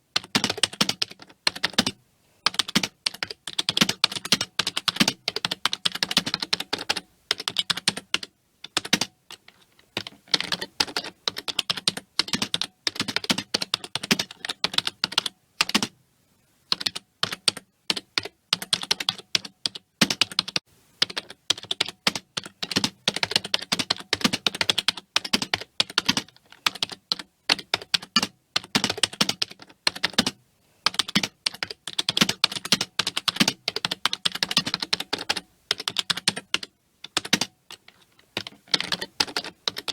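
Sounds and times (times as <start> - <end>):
fast typing on keyboard: 0.2 - 15.9, 16.7 - 39.9.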